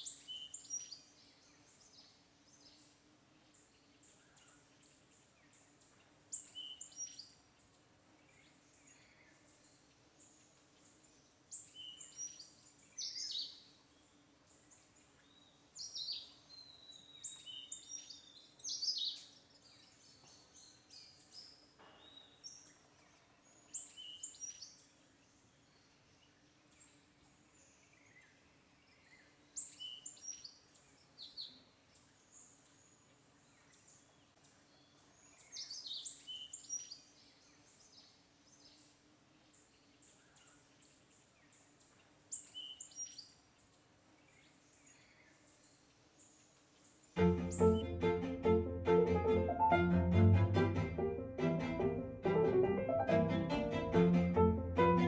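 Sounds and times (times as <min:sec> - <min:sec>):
small birds chirping: 0:00.0 - 0:48.6
faint steady low hum: 0:00.0 - 0:55.0.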